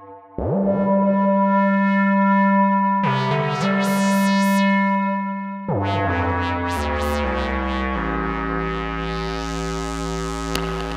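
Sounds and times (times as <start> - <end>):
analog synthesizer with tape echo: 0.0 - 10.9.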